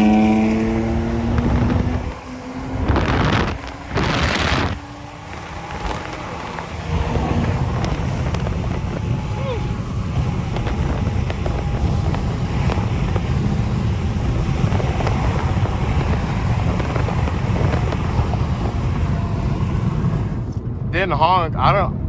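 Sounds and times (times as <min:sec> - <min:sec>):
car engine at speed: 0:00.0 - 0:20.9
wind noise: 0:00.0 - 0:22.0.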